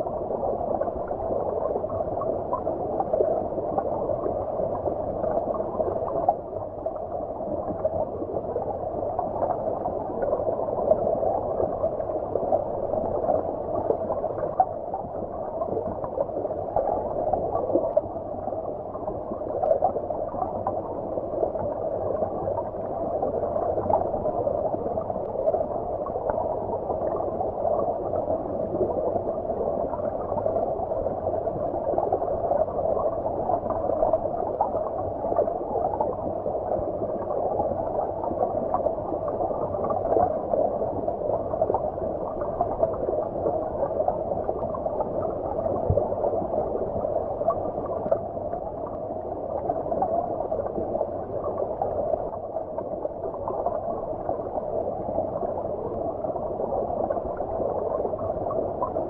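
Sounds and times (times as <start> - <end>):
muffled underwater stream bubbling: 0.0 - 59.0.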